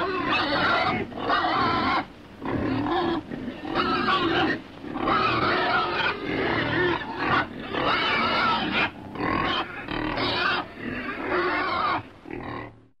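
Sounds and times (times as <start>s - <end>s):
pig grunting and squealing: 0.0s - 12.9s.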